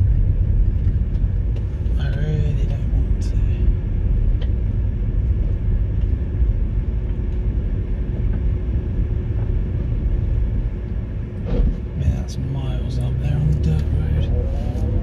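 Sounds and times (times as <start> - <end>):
car interior low rumble: 0.0 - 15.0
engine drone: 0.0 - 15.0.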